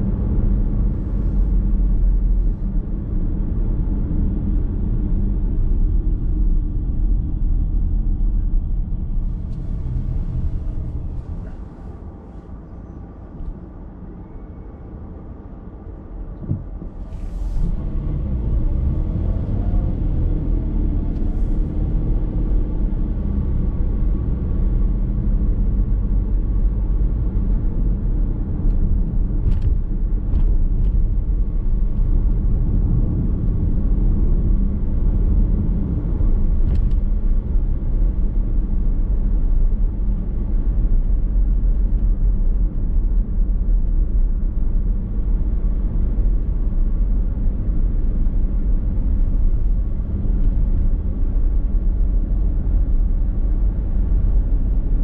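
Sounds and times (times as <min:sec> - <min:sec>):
car engine hum: 0:00.0 - 0:55.0
road and tyre rumble: 0:00.0 - 0:55.0.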